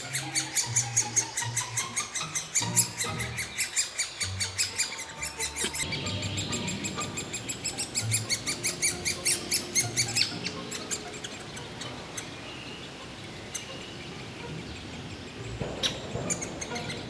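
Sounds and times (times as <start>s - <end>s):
woodpecker nestlings begging calls: 0.0s - 17.0s.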